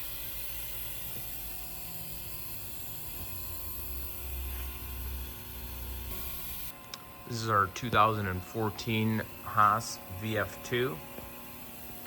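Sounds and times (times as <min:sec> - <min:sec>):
constant high whine: 0:00.0 - 0:12.0
machining center hum and hiss: 0:00.0 - 0:12.0.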